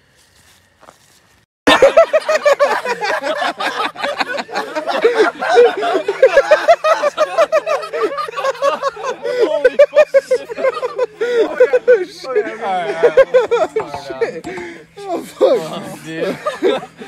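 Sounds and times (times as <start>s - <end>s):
steady low hum: 0.0s - 17.0s
people laughing and yelling: 1.7s - 17.0s.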